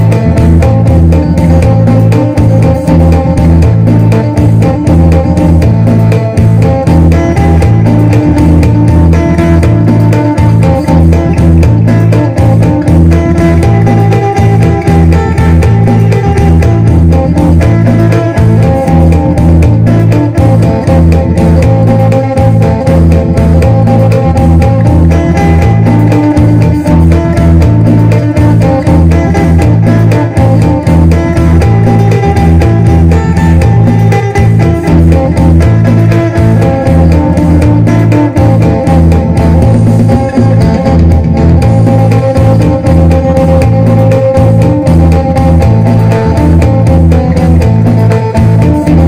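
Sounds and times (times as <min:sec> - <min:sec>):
electric guitar fast picked melody: 0:00.0 - 0:49.0
steady low drone: 0:00.0 - 0:49.0.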